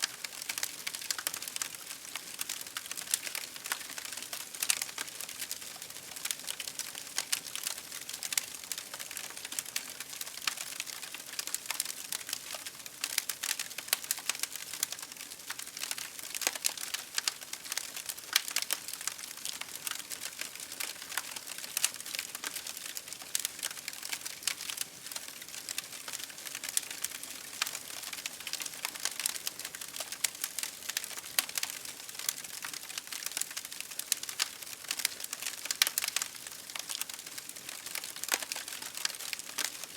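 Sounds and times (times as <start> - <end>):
campfire crackling: 0.1 - 39.9.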